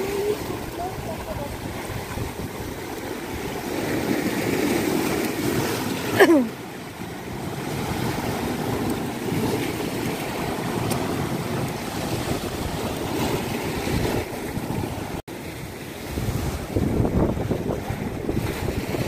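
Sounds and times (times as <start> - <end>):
wind buffeting microphone: 0.0 - 6.1, 6.9 - 19.0
waves washing over rocks: 0.0 - 19.0.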